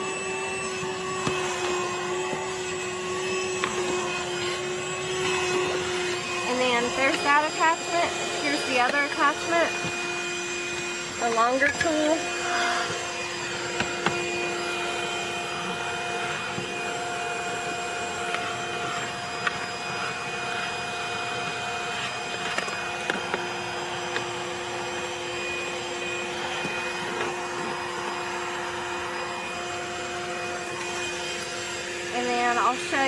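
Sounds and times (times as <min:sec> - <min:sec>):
handheld vacuum motor hum: 0:00.0 - 0:33.0.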